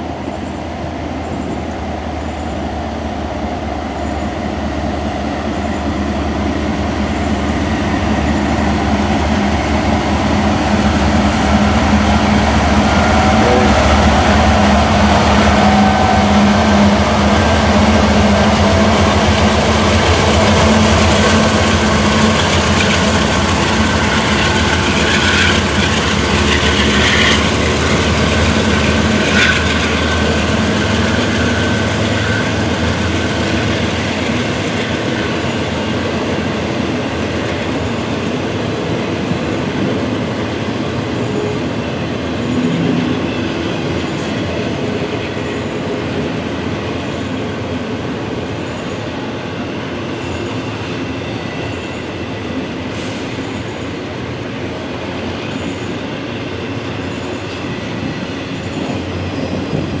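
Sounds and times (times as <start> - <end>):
train rolling past: 0.0 - 60.0.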